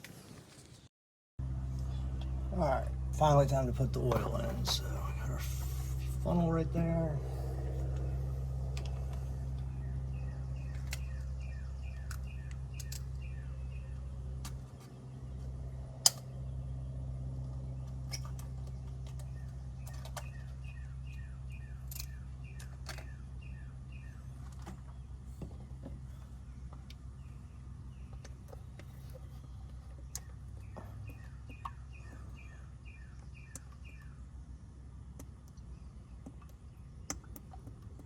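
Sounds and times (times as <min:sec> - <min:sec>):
steady low hum: 0:01.4 - 0:38.0
bird chirping: 0:01.8 - 0:15.6, 0:17.6 - 0:34.8.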